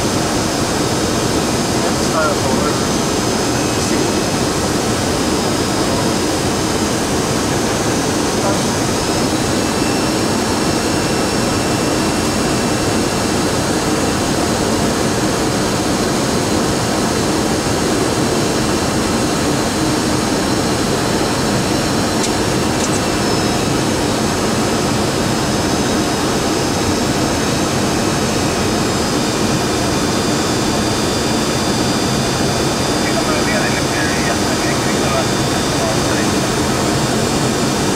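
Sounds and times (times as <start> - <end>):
jet engines: 0.0 - 37.9.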